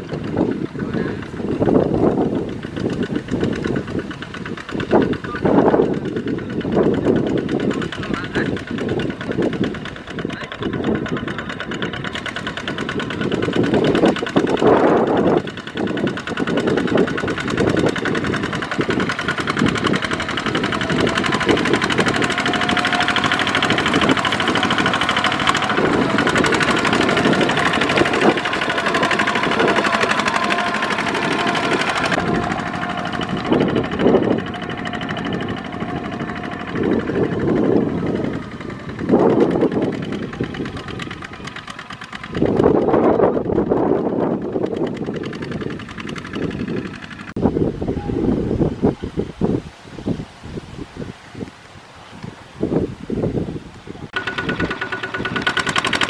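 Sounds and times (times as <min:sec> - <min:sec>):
diesel engine chugging: 0:00.0 - 0:49.0, 0:54.0 - 0:56.0.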